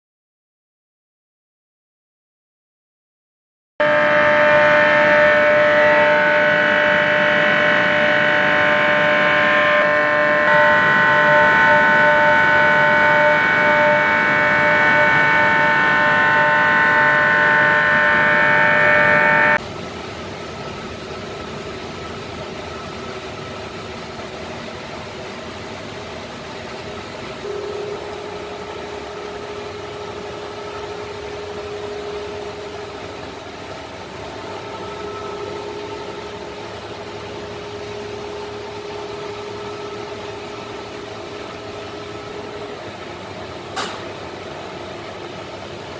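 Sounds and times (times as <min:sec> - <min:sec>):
compressor mechanical whine: 0:03.8 - 0:19.7, 0:20.5 - 0:45.9.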